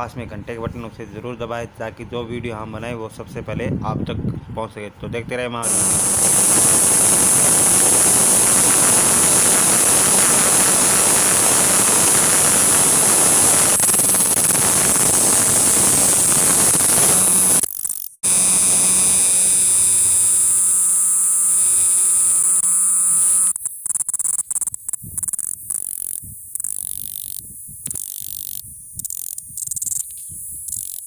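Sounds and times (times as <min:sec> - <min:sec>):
cicada buzzing: 0:05.6 - 0:31.0.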